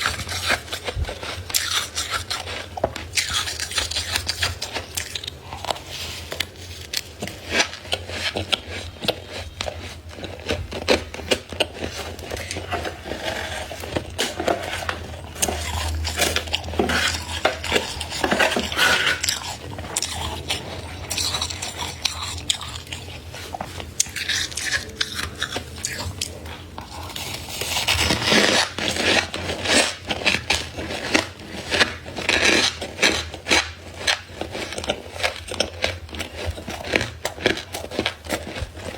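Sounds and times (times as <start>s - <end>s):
freezer frost being scraped: 0.0s - 38.9s.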